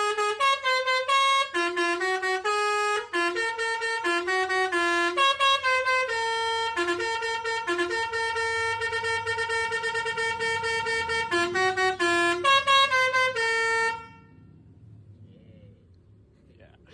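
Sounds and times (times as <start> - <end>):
multi-tone air horn melody: 0.0 - 14.4.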